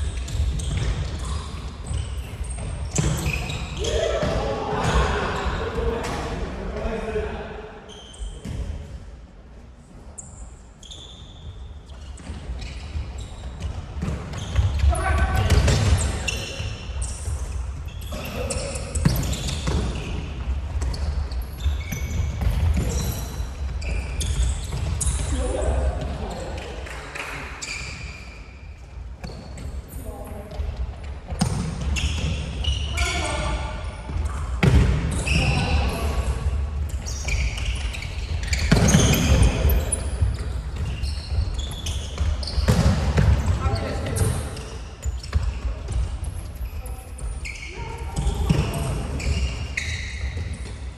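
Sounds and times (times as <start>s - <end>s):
sneakers squeaking on floor: 0.0s - 6.4s, 7.9s - 9.1s, 9.9s - 50.9s.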